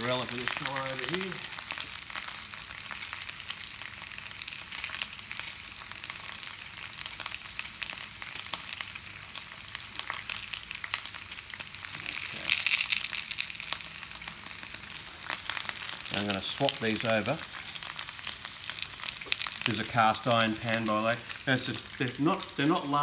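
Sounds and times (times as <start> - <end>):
potato frying in oil: 0.0 - 23.0.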